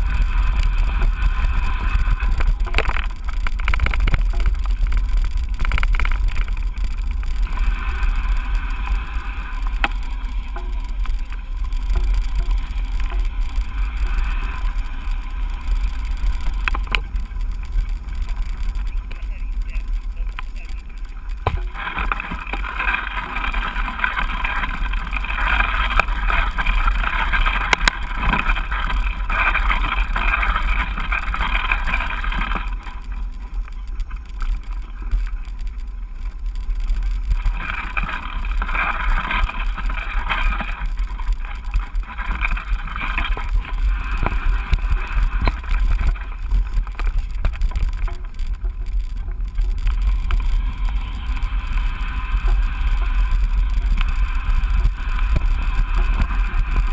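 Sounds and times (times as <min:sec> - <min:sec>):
bike clicks and rattles: 0:00.0 - 0:56.9
bike tyres on trail: 0:00.0 - 0:56.9
wind rumble on microphone: 0:00.0 - 0:56.9.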